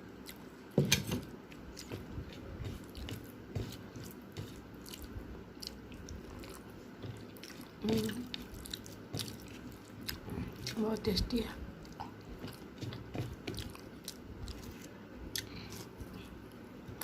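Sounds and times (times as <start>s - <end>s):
chewing and wet mouth sounds: 0.1s - 17.0s.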